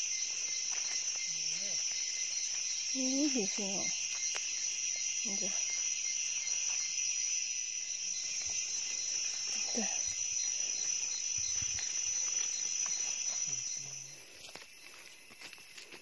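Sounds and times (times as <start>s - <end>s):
forest insects chorus: 0.0s - 16.0s.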